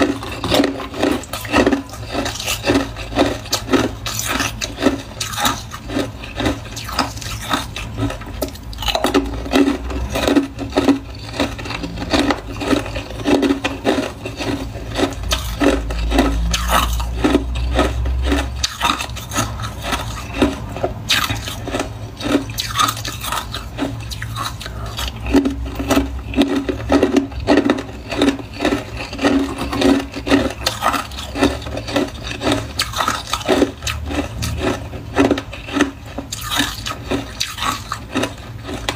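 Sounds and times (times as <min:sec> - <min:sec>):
crunching ice: 0:00.0 - 0:38.9.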